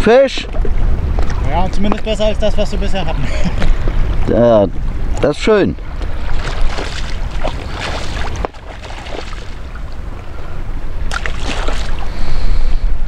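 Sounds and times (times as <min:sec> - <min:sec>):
waves lapping and sloshing: 0:00.0 - 0:13.0
wind buffeting microphone: 0:00.0 - 0:13.0.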